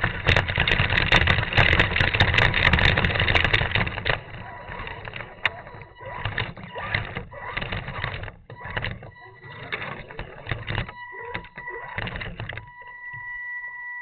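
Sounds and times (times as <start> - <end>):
electric motor whining in bursts: 0.0 - 13.6.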